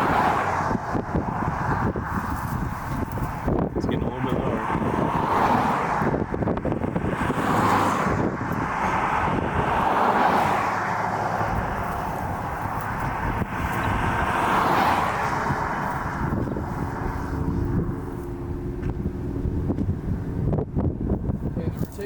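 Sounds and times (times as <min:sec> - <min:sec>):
wind rushing around a car: 0:00.0 - 0:22.0.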